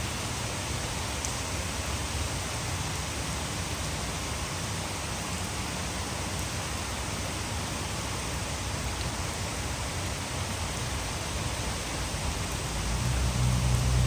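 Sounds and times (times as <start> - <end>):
heavy rain: 0.0 - 14.0
water falling over dam: 0.0 - 14.0.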